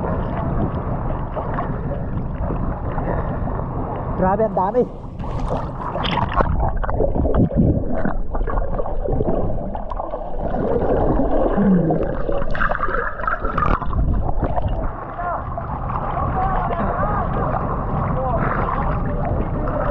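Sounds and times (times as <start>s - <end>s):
seawater sloshing and gurgling: 0.0s - 19.9s
water splashes: 0.0s - 19.9s.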